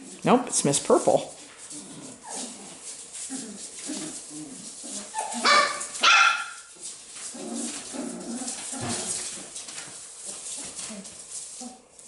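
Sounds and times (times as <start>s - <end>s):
paws scuffling on paper: 0.0s - 12.0s
puppies growling: 0.0s - 12.0s
puppies barking: 1.6s - 11.9s.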